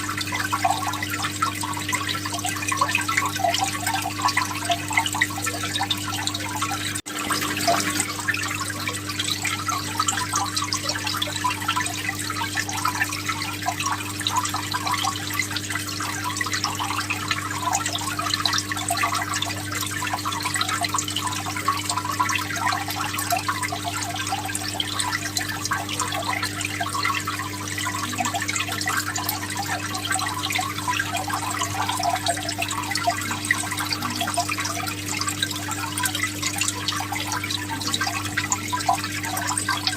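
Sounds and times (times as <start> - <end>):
aquarium water bubbling: 0.0 - 39.9
pump humming: 0.0 - 39.9.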